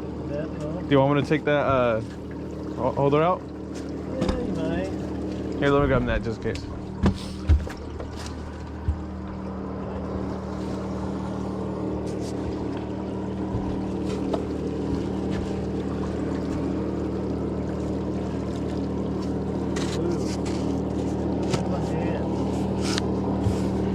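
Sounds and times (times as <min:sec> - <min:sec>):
boat motor humming: 0:00.0 - 0:23.9.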